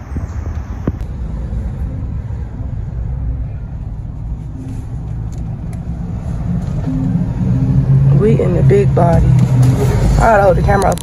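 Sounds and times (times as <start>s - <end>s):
pickup truck engine rumble: 0.0s - 11.0s
road noise: 0.0s - 11.0s.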